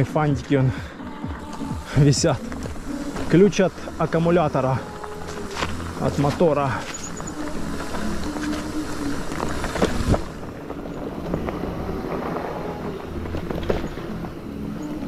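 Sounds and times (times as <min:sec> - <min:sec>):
tyres rumbling over stony ground: 0:00.0 - 0:15.0
bike rattling and knocking: 0:01.3 - 0:15.0.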